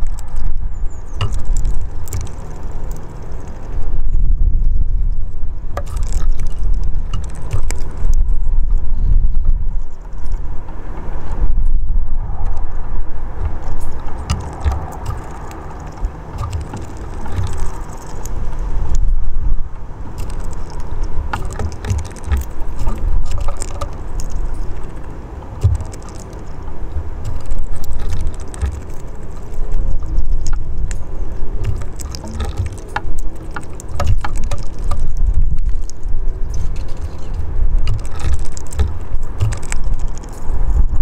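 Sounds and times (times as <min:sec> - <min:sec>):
birds pecking at seeds: 0:00.0 - 0:03.8, 0:05.6 - 0:08.4, 0:13.3 - 0:19.0, 0:19.8 - 0:41.0
low outdoor rumble: 0:00.0 - 0:41.0.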